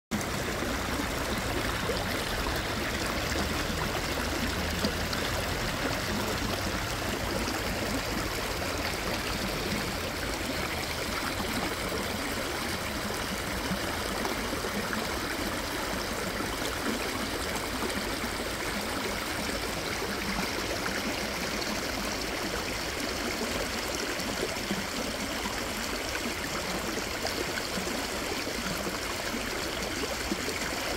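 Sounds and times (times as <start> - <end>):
stream babbling over rocks: 0.1 - 30.9.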